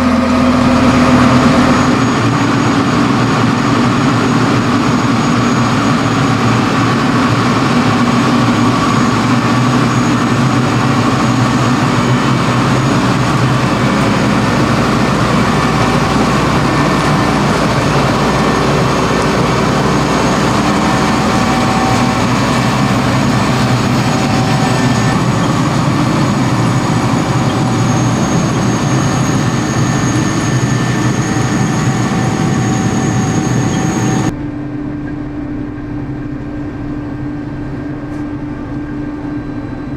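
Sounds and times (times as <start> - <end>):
harvester engine and machinery: 0.0 - 39.9.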